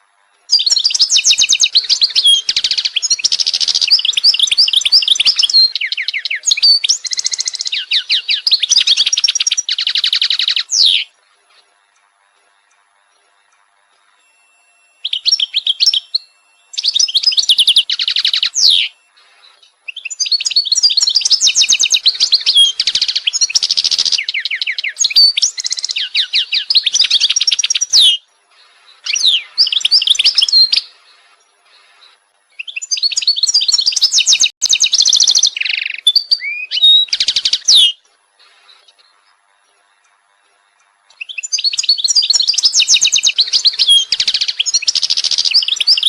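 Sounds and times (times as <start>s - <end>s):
songbird chirping and trilling: 0.0s - 46.0s.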